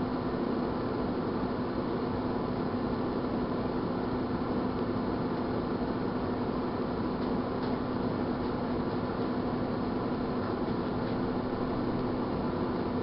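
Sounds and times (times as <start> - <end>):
fan noise: 0.0 - 13.0
microwave oven humming: 0.0 - 13.0.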